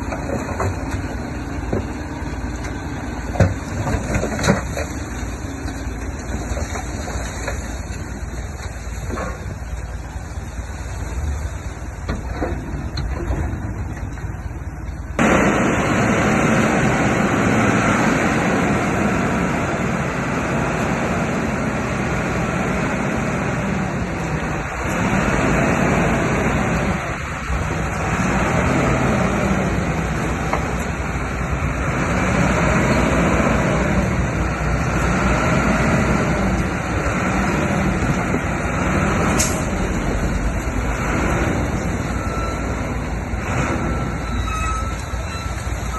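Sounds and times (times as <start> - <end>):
heavy machinery diesel engine: 0.0 - 45.9.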